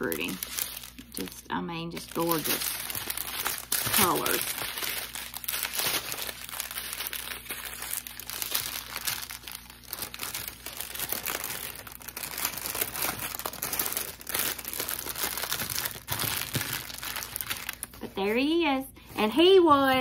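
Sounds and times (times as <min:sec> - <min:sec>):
plastic bags crinkling: 0:00.0 - 0:18.6.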